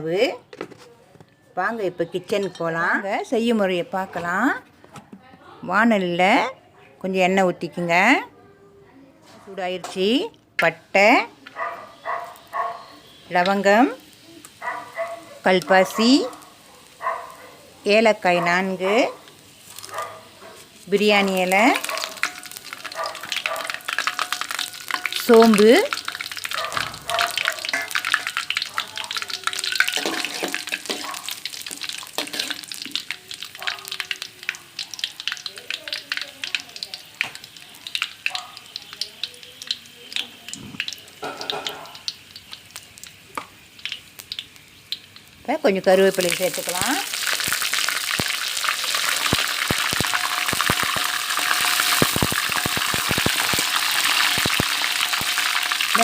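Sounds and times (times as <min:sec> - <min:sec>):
spices sizzling in hot oil: 0:09.6 - 0:56.0
leaves crackling and popping in oil: 0:09.8 - 0:56.0.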